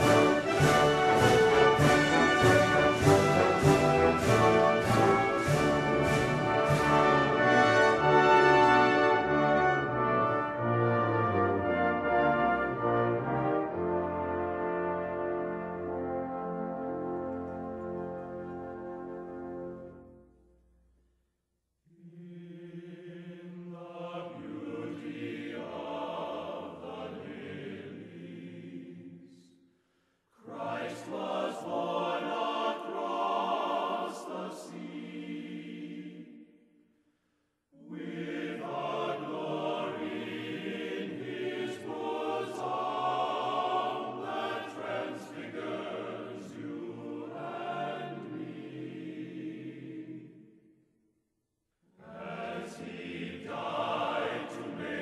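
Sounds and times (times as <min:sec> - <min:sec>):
chant-like choral singing: 0:00.0 - 0:20.0, 0:21.9 - 0:29.7, 0:30.4 - 0:36.8, 0:37.7 - 0:50.8, 0:51.9 - 0:55.0.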